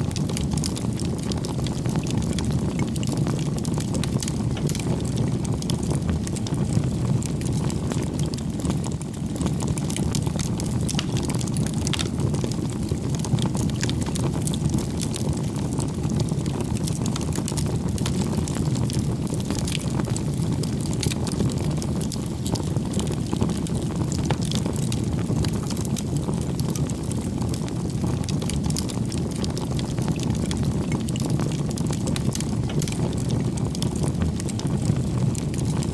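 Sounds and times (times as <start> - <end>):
rumble of fire flames: 0.0 - 35.9
wood crackling and popping: 0.0 - 35.9.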